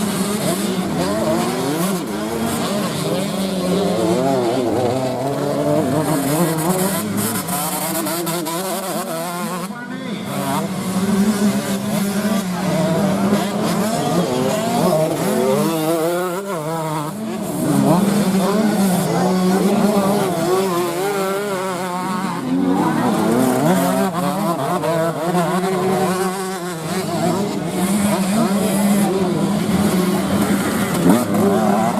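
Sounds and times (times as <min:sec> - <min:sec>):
dirt bike engines revving: 0:00.0 - 0:31.9.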